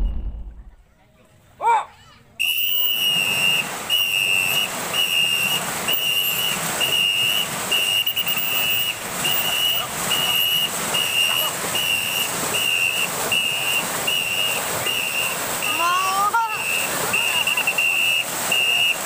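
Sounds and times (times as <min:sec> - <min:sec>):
paddles splashing water: 0:02.4 - 0:19.0
whistle blowing short blasts: 0:02.4 - 0:19.0.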